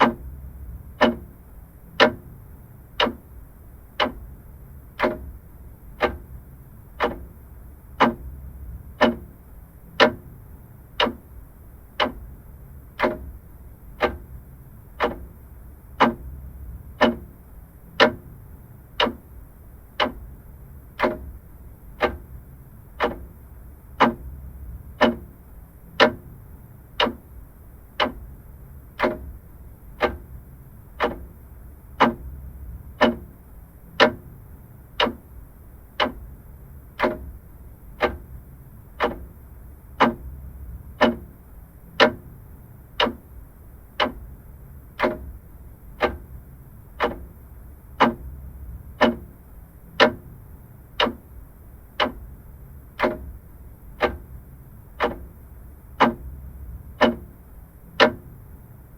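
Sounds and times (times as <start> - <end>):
faint low hum: 0.0 - 58.9
mechanical clock ticking: 0.0 - 58.9.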